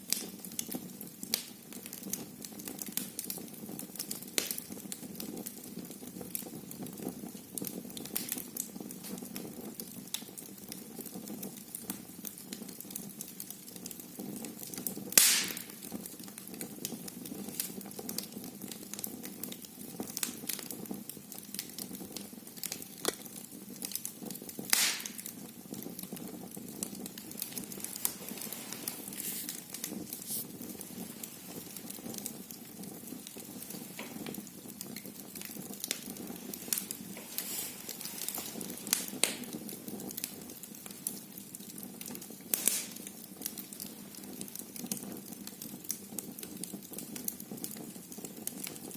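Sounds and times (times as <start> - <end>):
loud fire pops: 0.0 - 12.7, 13.4 - 48.9
wood fire crackling: 0.0 - 48.9.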